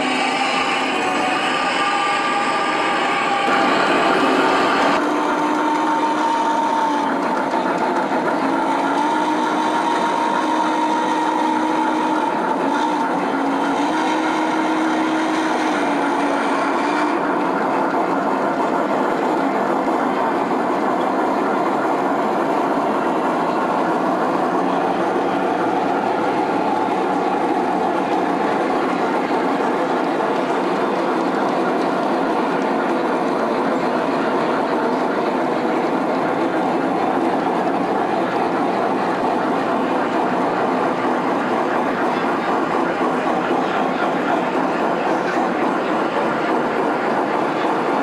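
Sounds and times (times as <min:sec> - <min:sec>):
model train wheels rumbling: 0:00.0 - 0:48.0
steady whine: 0:00.0 - 0:48.0.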